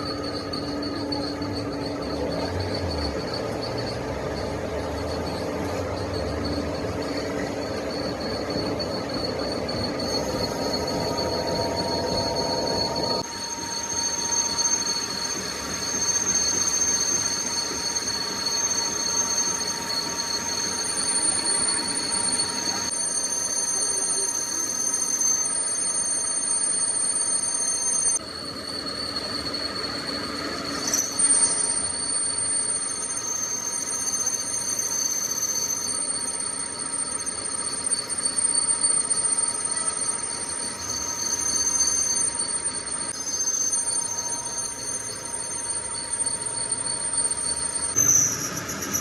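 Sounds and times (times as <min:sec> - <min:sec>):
high-pitched whining squeal: 0:00.0 - 0:49.0.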